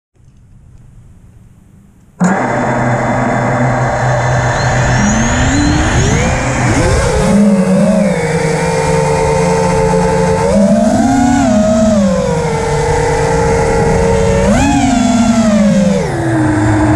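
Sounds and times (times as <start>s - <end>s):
quadcopter motors and propellers: 2.2s - 16.9s.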